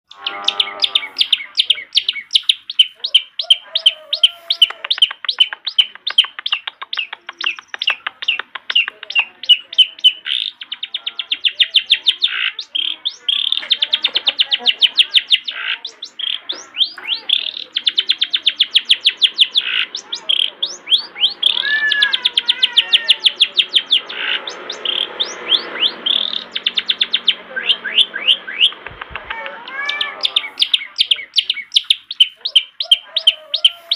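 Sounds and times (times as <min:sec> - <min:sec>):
shrike singing sharp chattering notes: 0:00.1 - 0:33.9.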